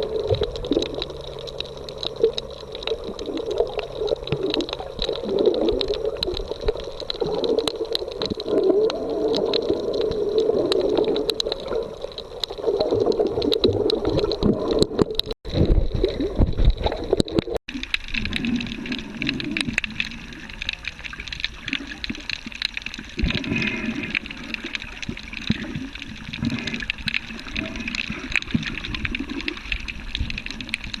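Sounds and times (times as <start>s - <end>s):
sea water washing at shore: 0.0s - 31.0s.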